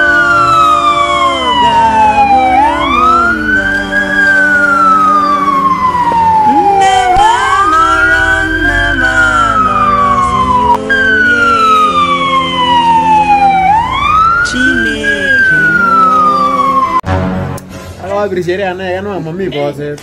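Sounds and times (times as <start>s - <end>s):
ambulance siren wailing: 0.0s - 17.1s.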